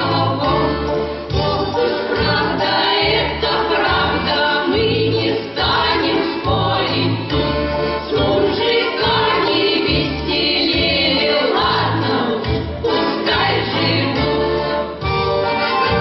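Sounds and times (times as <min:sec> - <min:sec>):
choir singing: 0:00.0 - 0:15.1
folk band playing: 0:00.0 - 0:16.0.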